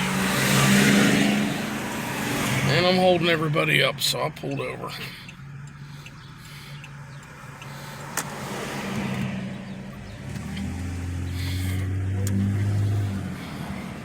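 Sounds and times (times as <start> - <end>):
car engine idling: 0.0 - 14.0
deeper engine hum: 0.0 - 14.0.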